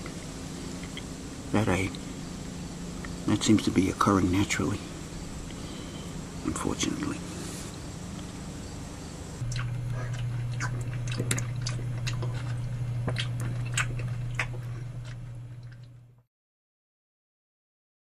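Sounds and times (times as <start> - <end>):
steady low hum: 0.0 - 16.3.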